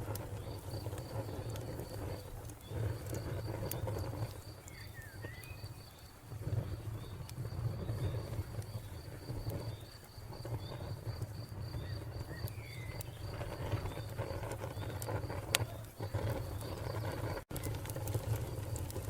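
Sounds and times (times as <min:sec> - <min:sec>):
wood fire crackling and popping: 0:00.0 - 0:19.0
cricket chirping: 0:00.4 - 0:17.3.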